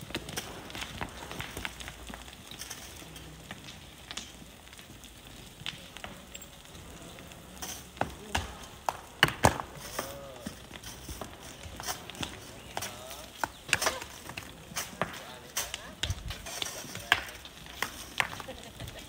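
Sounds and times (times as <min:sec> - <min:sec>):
sand and gravel scraped by hand: 0:00.0 - 0:19.0
stones clicking: 0:00.0 - 0:19.0.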